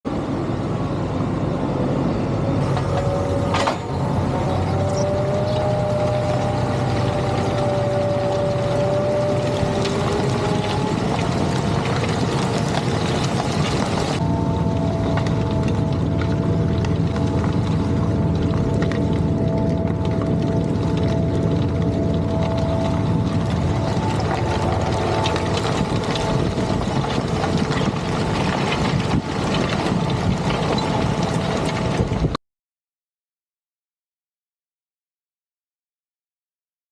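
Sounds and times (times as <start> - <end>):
steady whine: 0.1 - 32.4
tractor diesel engine under load: 0.1 - 32.4.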